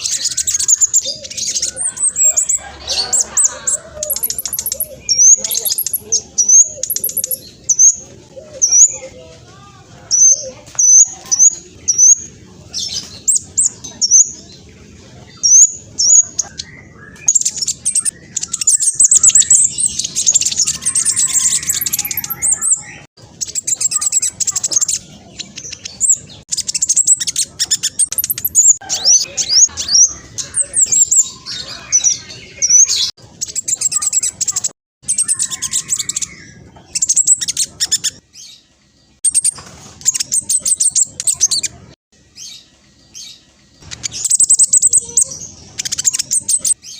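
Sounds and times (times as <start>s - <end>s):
bird singing high chirps and trills: 0.0s - 46.9s.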